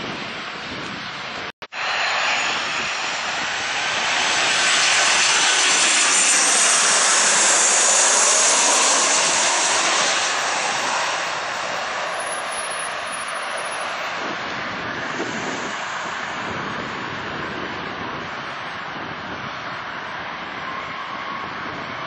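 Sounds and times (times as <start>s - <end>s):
jet plane passing overhead: 0.2s - 22.0s.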